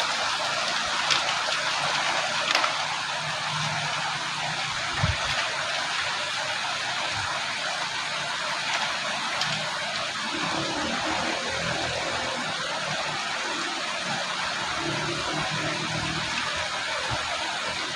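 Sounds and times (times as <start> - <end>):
river water rushing: 0.0 - 17.9.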